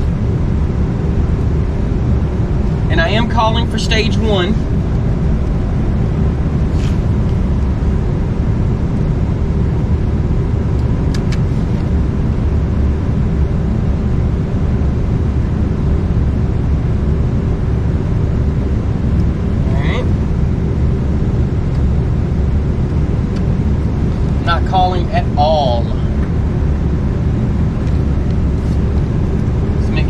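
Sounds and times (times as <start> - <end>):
faint steady hum: 0.0 - 30.0
loud low machine drone: 0.0 - 30.0.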